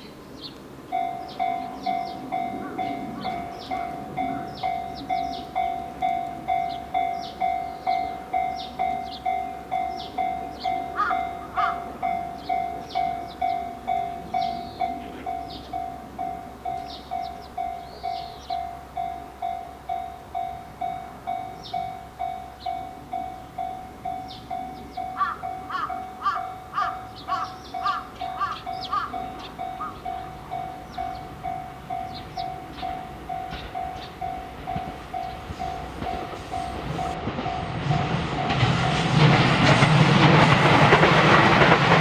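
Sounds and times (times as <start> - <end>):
birds chirping: 0.0 - 37.2
level crossing bell ringing: 0.9 - 39.0.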